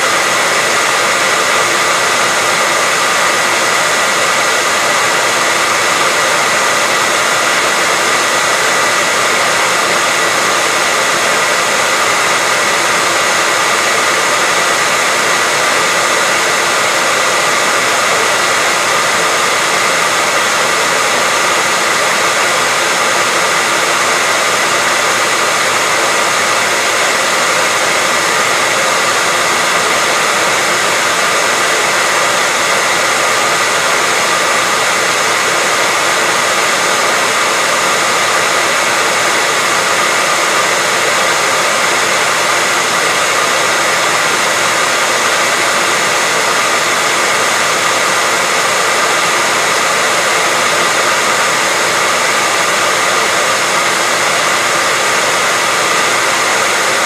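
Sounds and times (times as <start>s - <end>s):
hairdryer running: 0.0s - 57.0s.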